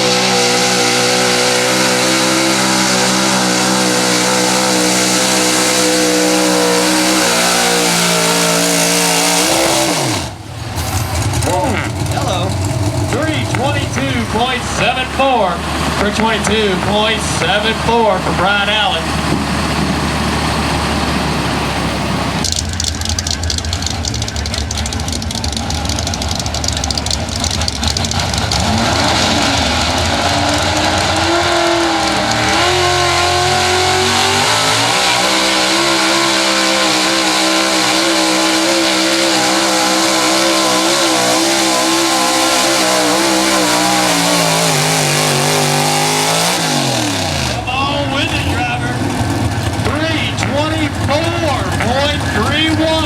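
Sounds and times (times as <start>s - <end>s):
truck engine revving at full throttle: 0.0s - 53.0s.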